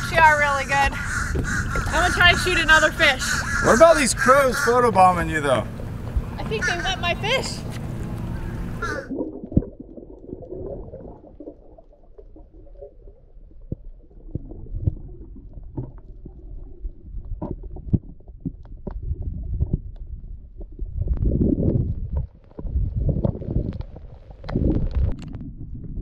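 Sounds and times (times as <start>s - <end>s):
underwater rumble of moving water: 0.0s - 26.0s.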